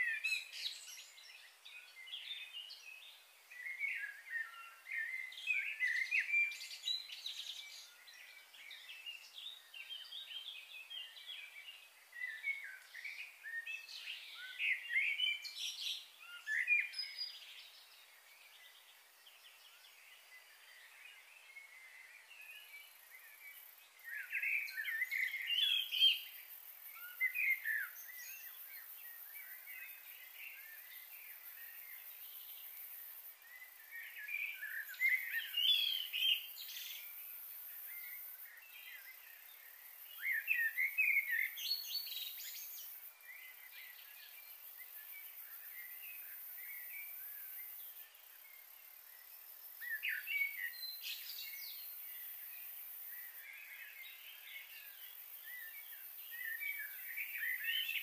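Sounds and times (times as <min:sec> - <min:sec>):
faint high hiss: 0:00.0 - 0:58.0.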